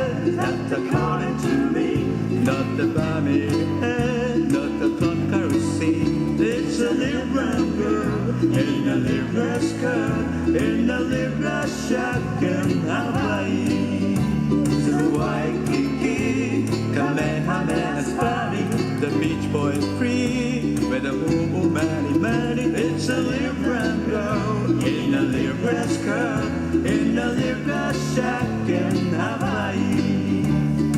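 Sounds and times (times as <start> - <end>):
person singing: 0.0 - 30.9
plucked strings: 0.0 - 30.9
steady bass line: 0.0 - 30.9.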